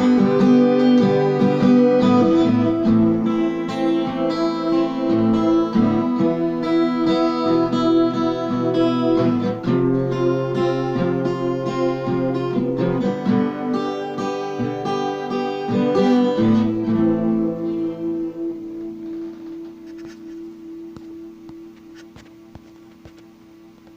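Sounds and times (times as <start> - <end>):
acoustic guitar strumming chords: 0.0 - 23.9.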